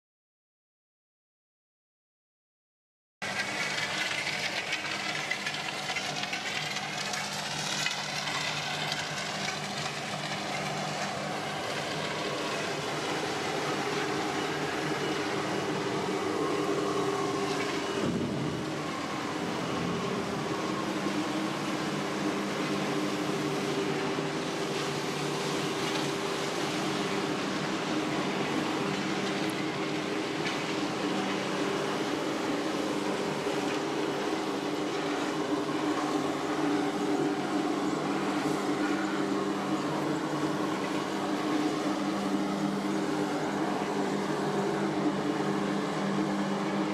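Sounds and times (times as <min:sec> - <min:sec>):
heavy machinery drone: 0:03.2 - 0:46.9.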